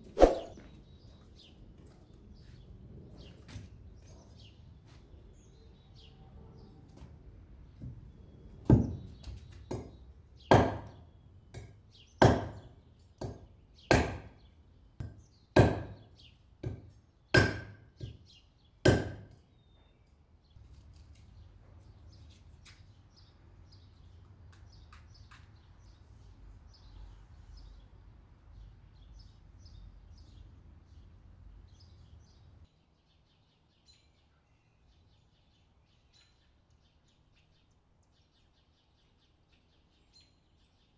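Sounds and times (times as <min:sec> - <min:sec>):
birds chirping: 0:00.0 - 0:16.5, 0:19.4 - 0:40.9.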